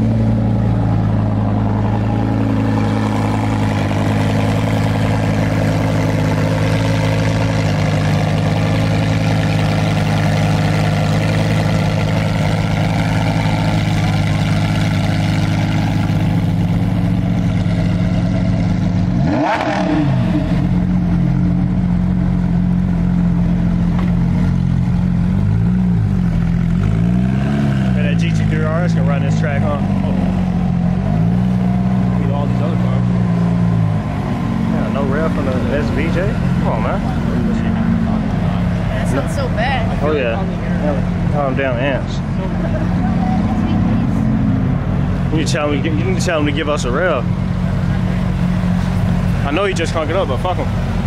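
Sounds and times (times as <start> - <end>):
car engine idling: 0.0 - 51.0
car engine revving: 0.0 - 51.0.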